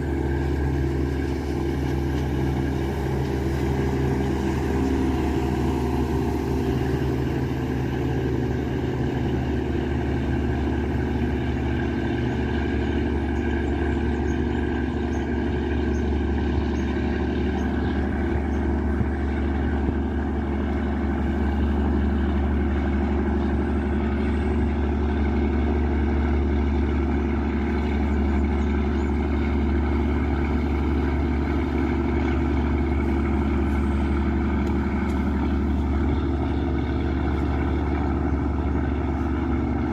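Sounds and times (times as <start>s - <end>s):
boat diesel engine droning: 0.0s - 39.9s.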